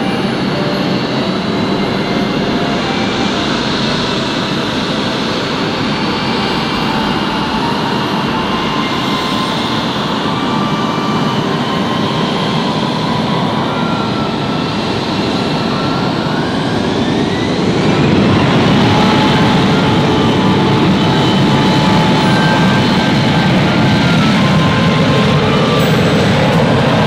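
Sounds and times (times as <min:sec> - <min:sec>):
jet engine rush with whine: 0:00.0 - 0:27.0.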